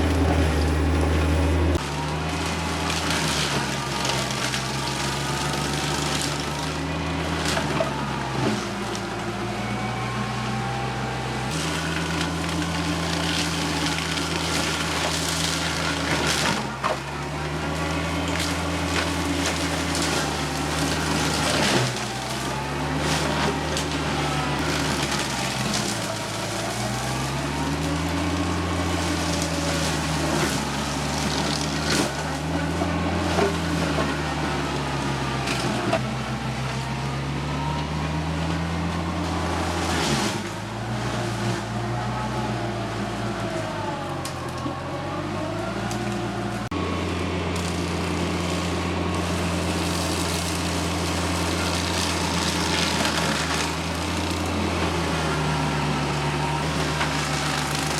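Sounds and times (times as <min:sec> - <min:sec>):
mulcher crackling and splintering wood: 0:00.0 - 0:57.9
tractor diesel engine under load: 0:00.0 - 0:57.9.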